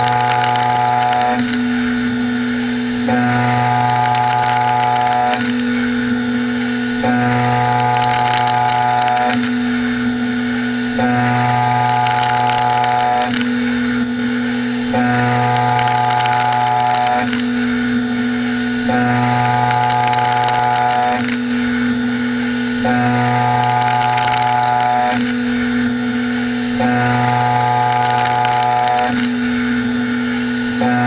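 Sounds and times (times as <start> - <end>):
end mill cutting metal: 0.0 - 31.0.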